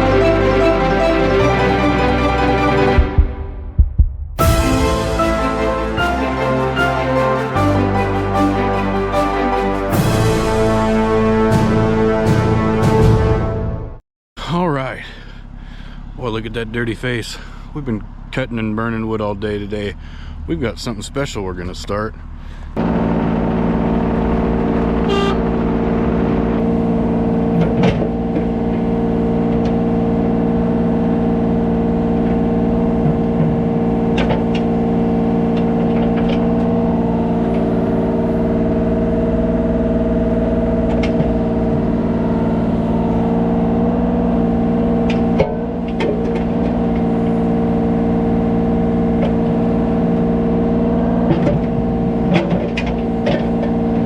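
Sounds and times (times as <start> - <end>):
diesel engine running: 0.0 - 3.8, 4.4 - 13.6, 14.4 - 54.0.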